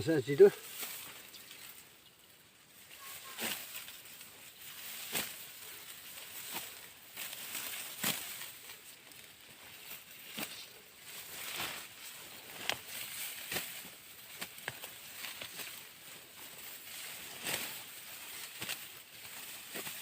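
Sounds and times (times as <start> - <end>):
sickle cutting rice stalks: 0.0 - 20.0.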